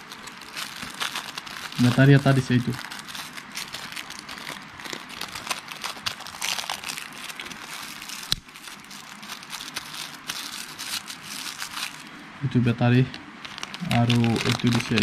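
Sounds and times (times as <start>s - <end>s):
plastic bag crinkling: 0.0s - 12.1s, 12.9s - 15.0s.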